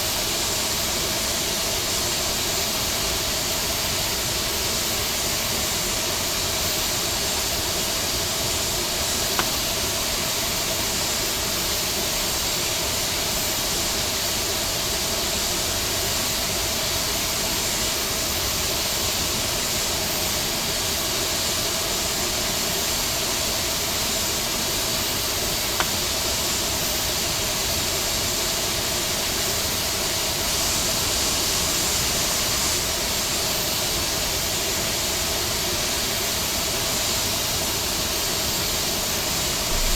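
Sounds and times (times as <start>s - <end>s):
jet engine airflow hiss in cabin: 0.0s - 39.9s.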